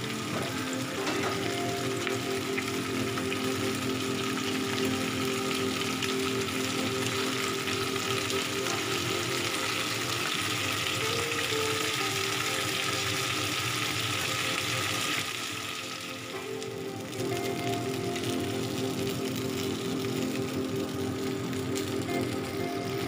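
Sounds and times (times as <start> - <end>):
chicken wings sizzling in hot oil: 0.0 - 23.0.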